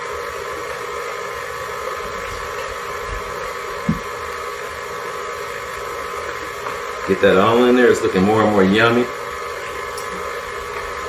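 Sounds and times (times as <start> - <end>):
stand mixer beating batter: 0.0 - 11.0.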